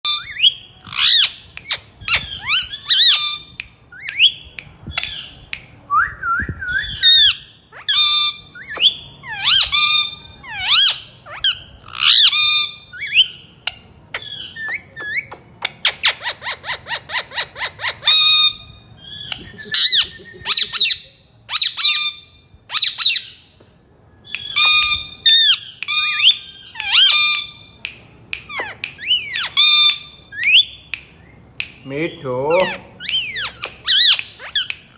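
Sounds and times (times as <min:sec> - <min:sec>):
parakeet squawks and whistles: 0:00.0 - 0:05.4, 0:06.8 - 0:23.4, 0:24.2 - 0:27.8, 0:28.4 - 0:30.9, 0:32.5 - 0:34.9.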